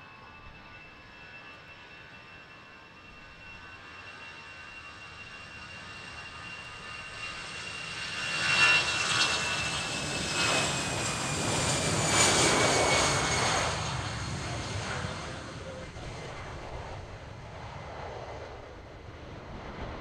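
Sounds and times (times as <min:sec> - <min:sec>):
jet engines at take-off: 0:00.0 - 0:20.0.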